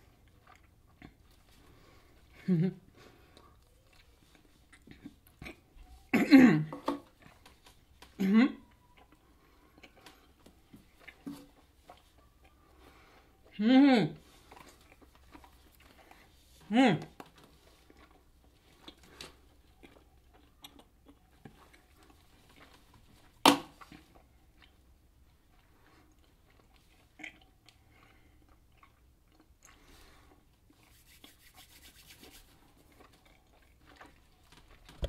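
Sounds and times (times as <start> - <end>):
gum chewing with wet smacks: 0.0 - 6.2, 6.9 - 13.6, 14.2 - 35.0.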